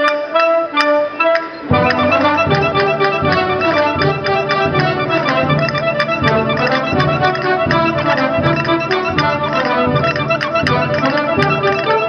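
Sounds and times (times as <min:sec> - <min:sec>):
accordion-like traditional music: 0:00.0 - 0:12.0.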